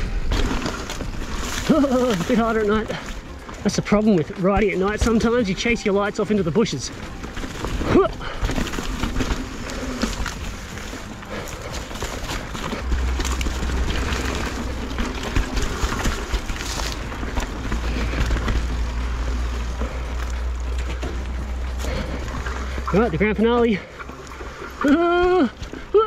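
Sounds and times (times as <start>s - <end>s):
bike clattering and rattling: 0.0s - 26.0s
bike tyre noise on dirt trail: 0.0s - 26.0s.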